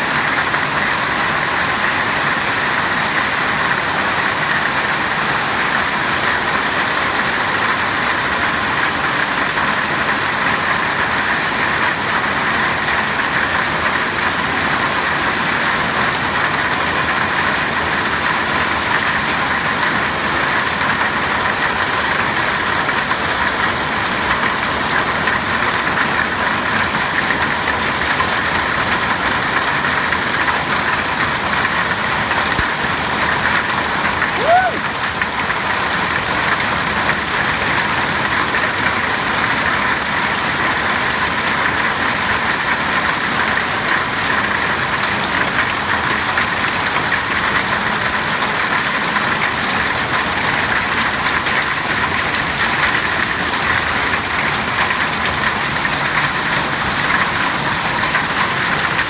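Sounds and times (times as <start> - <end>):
hail and rain falling: 0.0 - 59.0.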